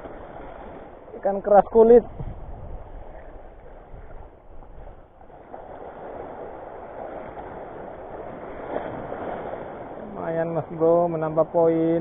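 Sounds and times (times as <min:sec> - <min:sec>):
wind on microphone: 0:00.0 - 0:10.2
choppy sea water: 0:00.0 - 0:12.0.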